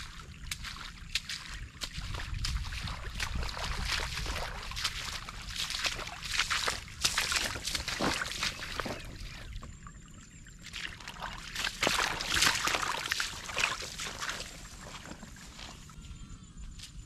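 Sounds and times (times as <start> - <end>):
footsteps splashing through water: 0.0 - 16.0.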